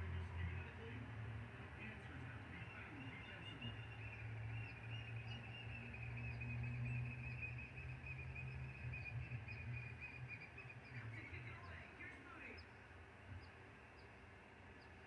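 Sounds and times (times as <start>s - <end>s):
small birds twittering: 2.3s - 15.0s.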